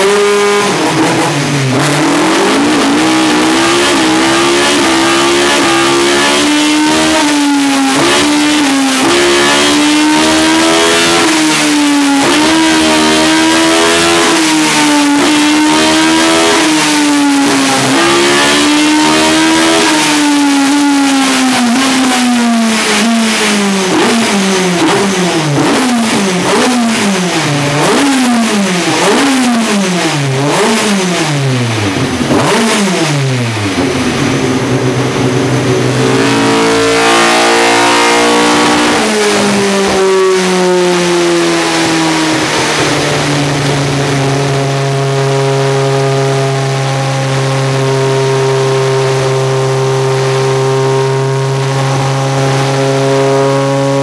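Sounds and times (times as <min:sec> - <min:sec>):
racing engine revving: 0:00.0 - 0:54.0.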